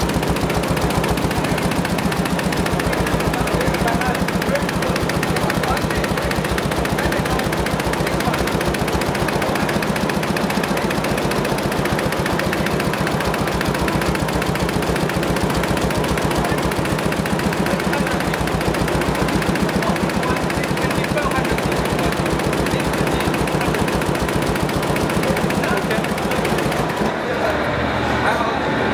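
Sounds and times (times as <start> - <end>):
embroidery machine clattering: 0.0 - 27.8.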